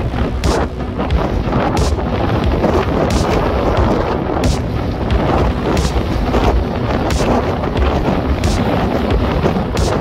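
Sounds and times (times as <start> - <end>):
surf breaking: 0.0 - 10.0
wind buffeting microphone: 0.0 - 10.0.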